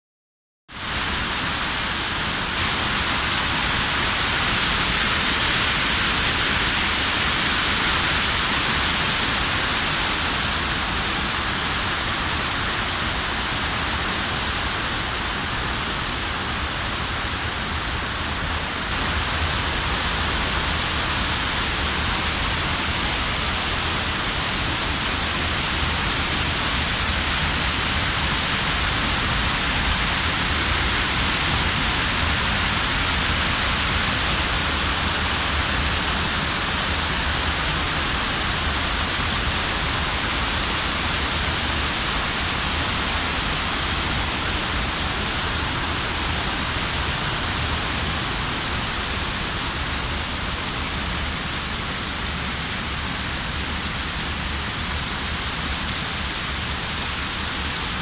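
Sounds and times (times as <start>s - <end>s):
river cascade rushing over boulders: 0.8s - 58.0s.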